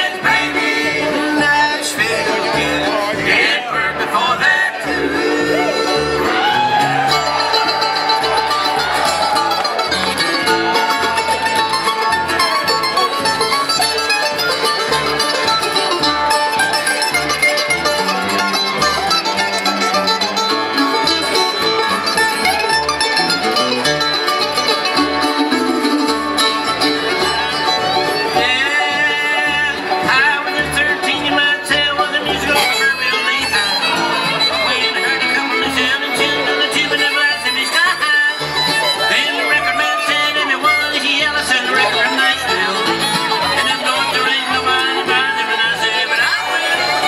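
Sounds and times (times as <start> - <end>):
bluegrass band playing: 0.0 - 47.0.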